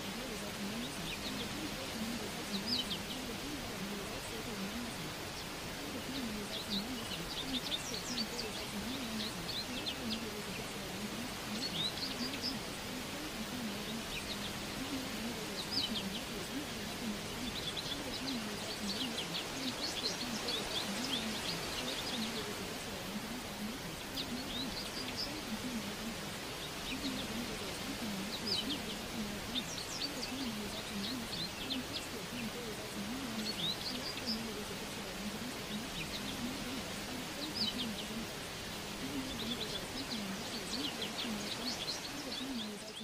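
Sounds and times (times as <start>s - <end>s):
background hiss: 0.0s - 43.0s
faint low voice: 0.0s - 43.0s
small birds chirping: 0.0s - 43.0s.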